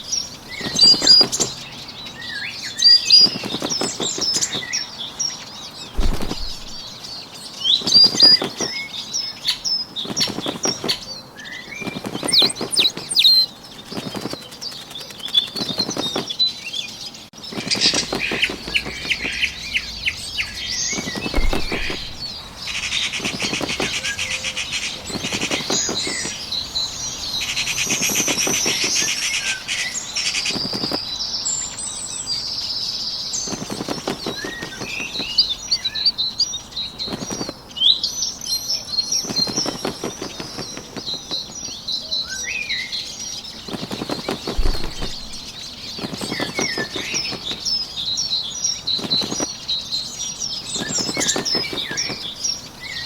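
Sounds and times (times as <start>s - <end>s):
rapid wing-flapping: 0.0s - 1.8s, 2.8s - 4.8s, 5.8s - 16.6s, 17.4s - 31.1s, 33.4s - 36.2s, 36.8s - 37.7s, 38.8s - 41.8s, 43.0s - 53.0s
songbirds chirping: 0.0s - 53.0s.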